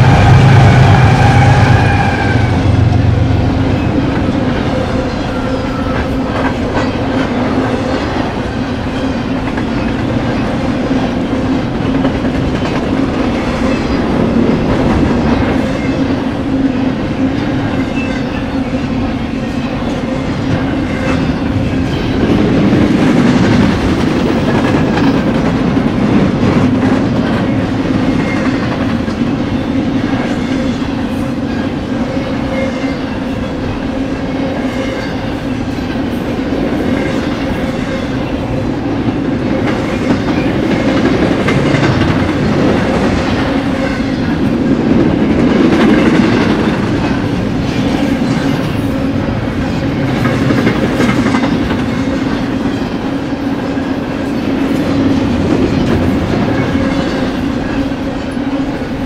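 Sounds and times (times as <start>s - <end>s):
freight train wheels rumbling: 0.0s - 59.0s
wheels clickety-clack: 3.8s - 16.2s, 17.0s - 30.9s, 35.8s - 59.0s.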